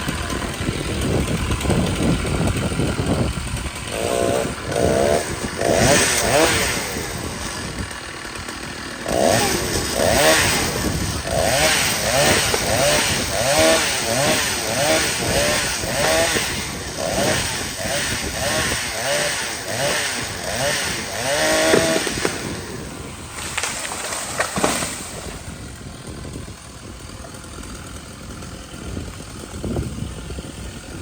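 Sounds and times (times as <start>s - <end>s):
chainsaw revving: 0.0s - 31.0s.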